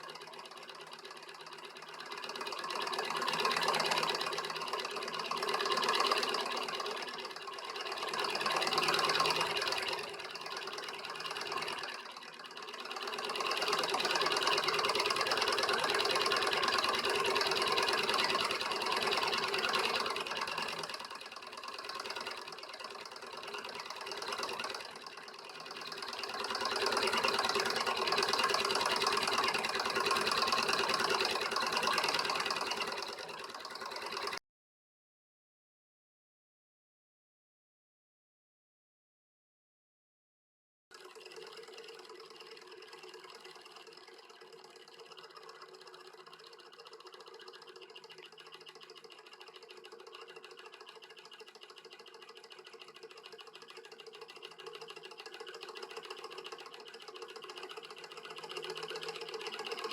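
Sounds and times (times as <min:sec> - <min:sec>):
small engine clattering: 0:00.0 - 0:34.4, 0:40.9 - 0:59.9.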